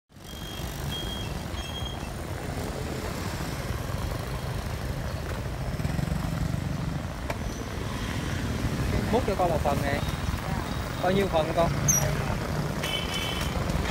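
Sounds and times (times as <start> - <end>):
motorbike traffic rumble: 0.1 - 13.9.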